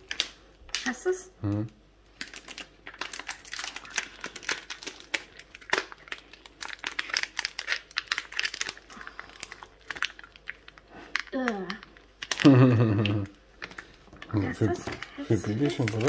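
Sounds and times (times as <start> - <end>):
packaging crinkling: 0.0 - 0.9, 2.0 - 16.0.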